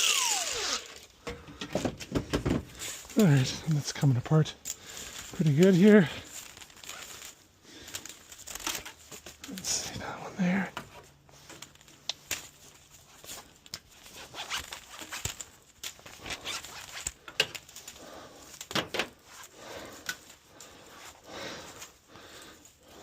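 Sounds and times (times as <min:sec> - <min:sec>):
sharp clicks of hose pieces: 0:00.0 - 0:10.0, 0:10.7 - 0:20.7
hose scraping and rustling: 0:00.0 - 0:23.0.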